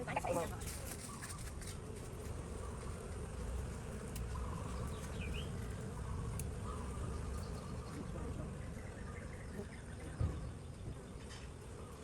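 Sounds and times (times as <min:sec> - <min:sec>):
honey bees buzzing: 0:01.7 - 0:12.0.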